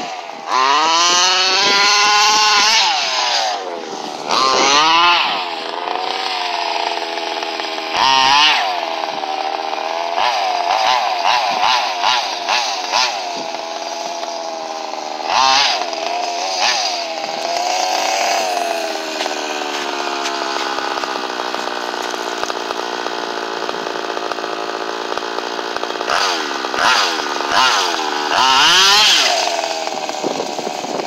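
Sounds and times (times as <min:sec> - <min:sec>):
rc car engine revving: 0:00.0 - 0:31.0.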